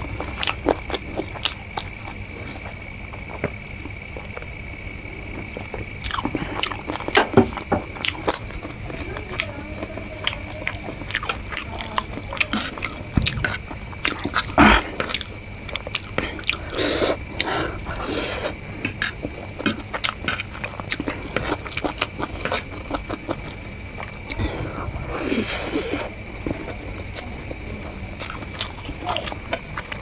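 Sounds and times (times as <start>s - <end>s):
person chewing: 0.2s - 2.7s, 6.0s - 27.6s, 28.2s - 30.0s.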